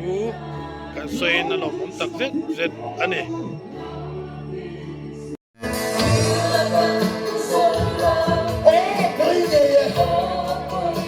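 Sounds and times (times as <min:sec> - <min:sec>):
background music with singing voices: 0:00.0 - 0:11.0.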